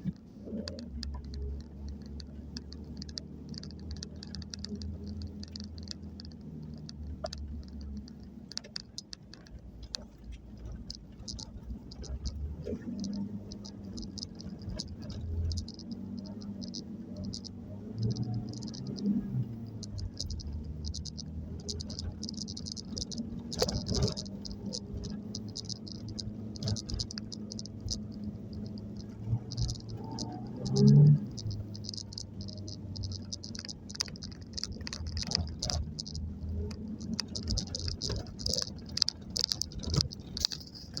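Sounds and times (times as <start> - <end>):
rattling and clicking: 0.0 - 41.0
van engine and road rumble: 0.0 - 41.0.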